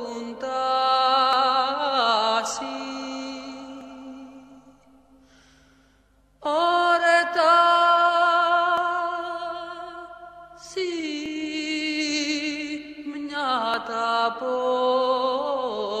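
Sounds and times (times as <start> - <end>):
solo voice chanting: 0.0 - 5.2, 6.4 - 16.0.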